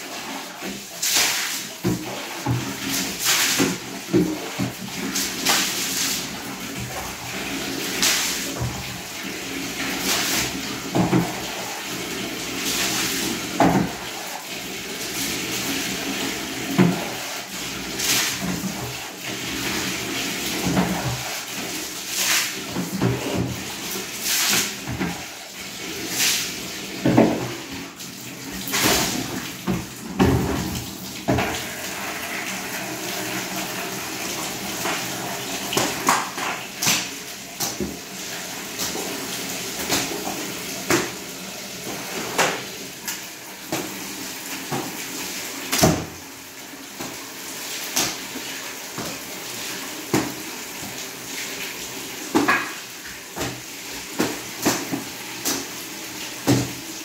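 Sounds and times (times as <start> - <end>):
wet floor washing: 0.0 - 57.0.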